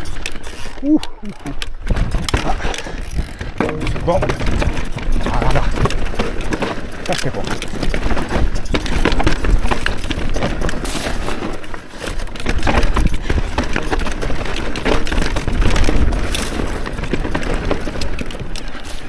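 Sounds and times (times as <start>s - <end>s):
bike rattling over rock: 0.0s - 19.0s.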